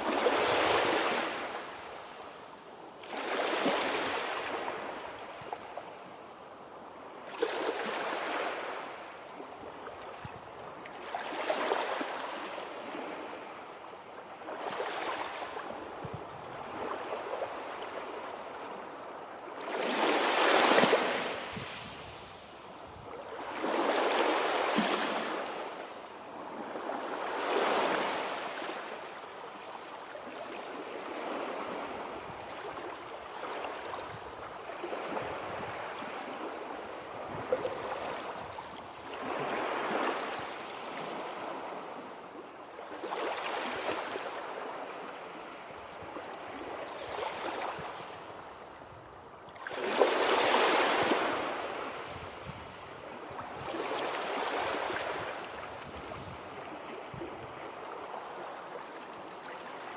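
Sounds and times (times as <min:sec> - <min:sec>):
sea waves breaking on shore: 0:00.0 - 0:06.1, 0:07.1 - 0:59.9.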